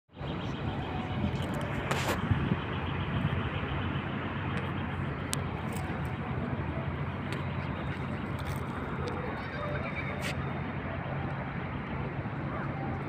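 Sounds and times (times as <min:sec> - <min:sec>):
boat engine humming: 0:00.1 - 0:13.0
noisy rush: 0:00.1 - 0:13.0.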